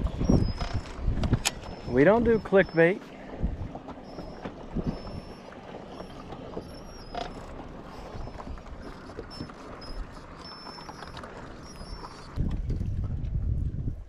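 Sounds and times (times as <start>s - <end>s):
light wind: 0.0s - 14.0s
water around boat: 0.0s - 14.0s.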